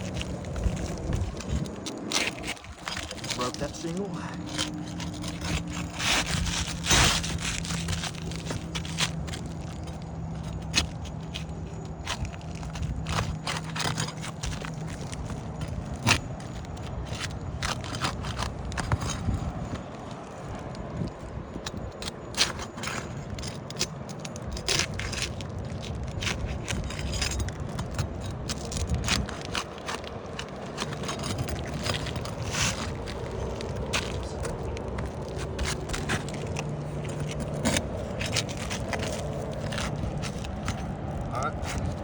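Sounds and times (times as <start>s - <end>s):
shingles scraping and cracking: 0.0s - 42.0s.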